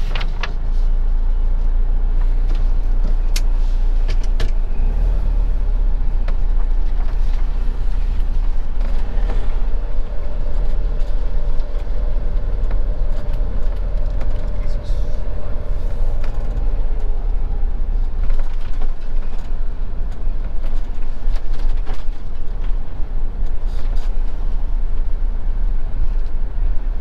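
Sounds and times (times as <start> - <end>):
engine rumbling from inside cab: 0.0 - 27.0.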